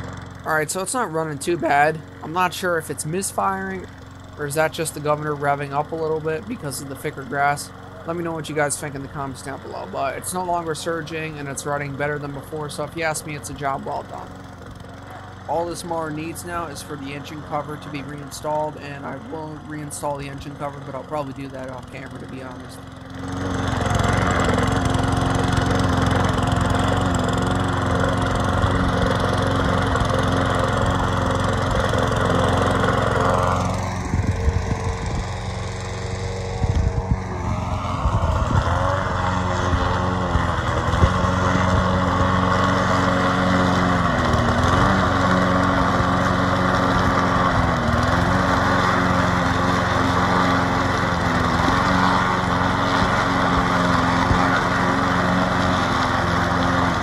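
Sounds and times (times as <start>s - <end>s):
push mower engine cutting grass: 0.0s - 57.0s.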